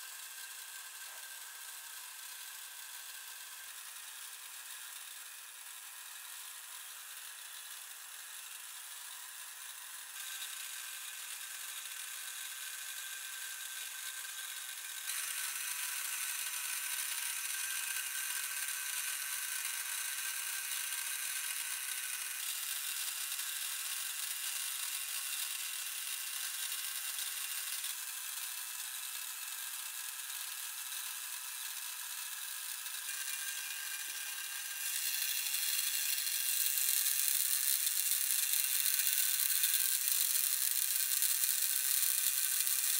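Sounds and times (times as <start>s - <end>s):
small gears turning: 0.0s - 42.9s.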